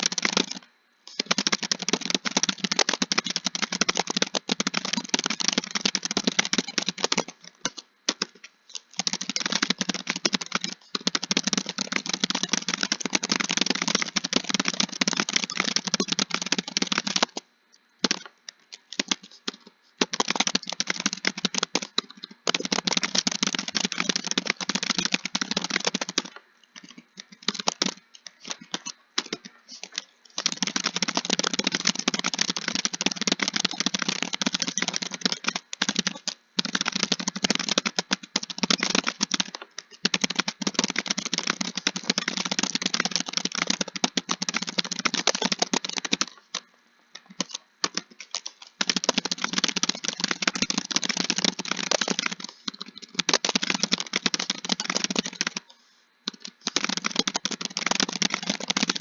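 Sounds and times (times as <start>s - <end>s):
fast typing on a keyboard: 0.0s - 17.4s, 18.0s - 59.0s.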